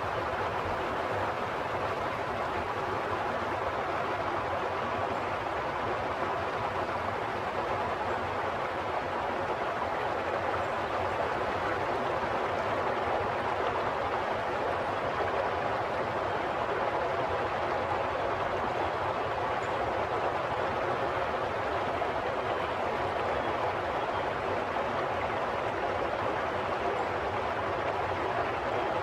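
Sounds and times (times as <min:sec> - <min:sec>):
flowing water: 0:00.0 - 0:29.0.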